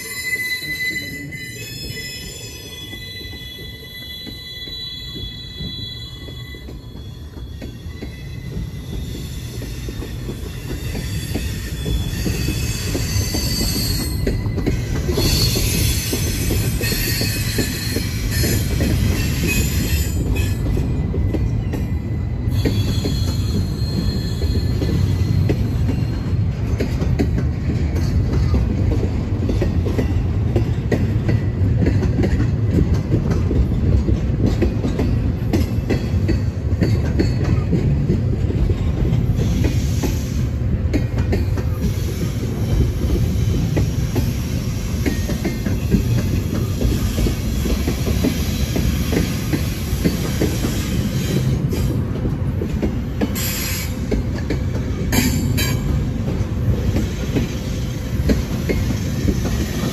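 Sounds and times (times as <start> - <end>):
train wheels rumbling on rails: 0.0 - 59.9
wheels clacking over rail joints: 1.8 - 59.9.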